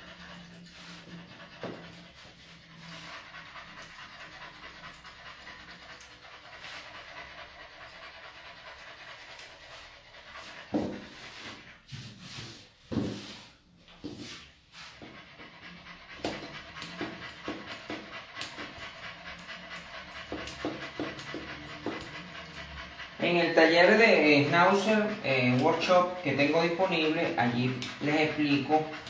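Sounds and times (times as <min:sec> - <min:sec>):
dog panting: 0:00.0 - 0:29.0.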